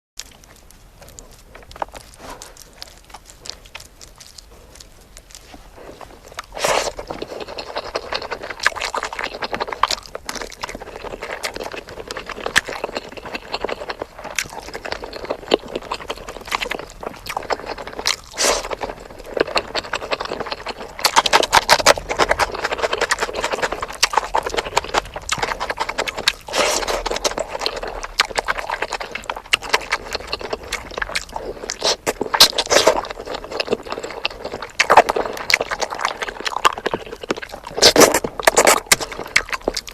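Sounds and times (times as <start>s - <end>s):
wet chewing and lip-smacking: 0.2s - 39.9s.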